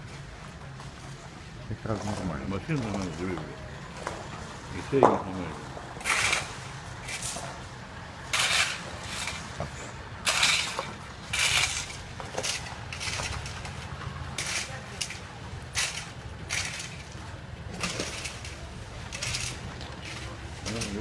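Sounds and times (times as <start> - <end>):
shovels scraping on asphalt: 1.9 - 21.0.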